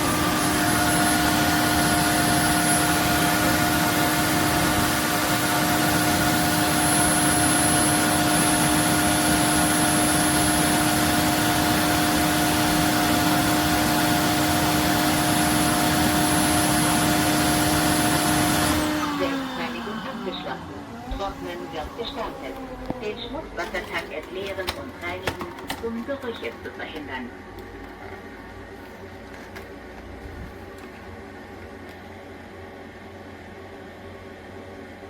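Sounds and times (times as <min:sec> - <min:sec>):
vacuum motor whining: 0:00.0 - 0:32.9.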